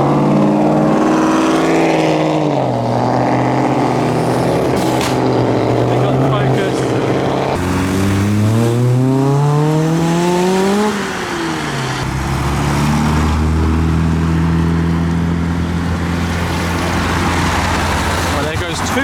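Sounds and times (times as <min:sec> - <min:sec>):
car engine revving: 0:00.0 - 0:19.0
low engine drone: 0:00.0 - 0:19.0.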